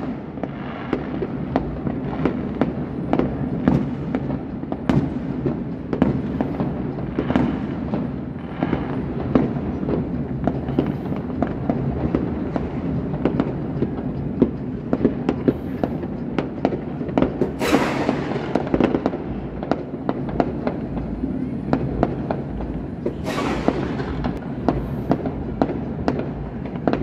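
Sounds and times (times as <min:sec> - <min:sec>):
fireworks bangs and pops: 0:00.0 - 0:27.0.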